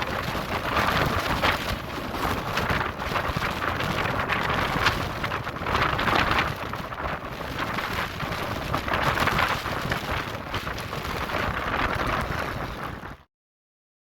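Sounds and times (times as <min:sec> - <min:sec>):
strong wind buffeting microphone: 0:00.0 - 0:13.3.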